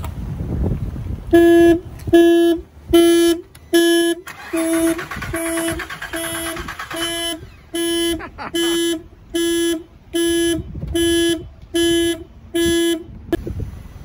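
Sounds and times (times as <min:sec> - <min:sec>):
car alarm honks: 0:01.3 - 0:13.4.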